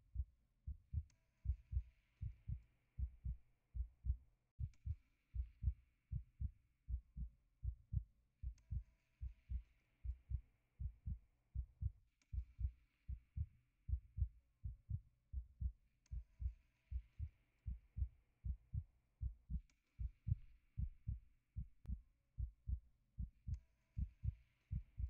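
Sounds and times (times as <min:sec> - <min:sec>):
heartbeat thumps: 0:00.2 - 0:08.8, 0:09.5 - 0:25.0.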